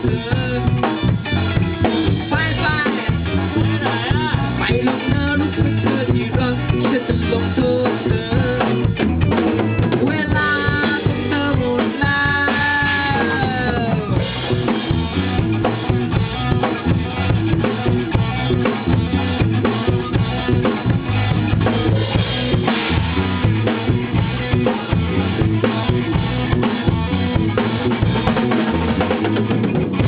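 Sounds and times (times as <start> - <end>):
bass line: 0.0 - 30.0
drum kit: 0.0 - 30.0.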